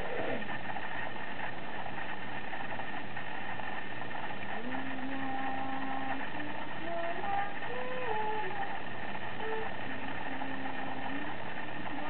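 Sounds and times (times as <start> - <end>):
mechanical hum: 0.0 - 12.0
thin high whine: 0.0 - 12.0.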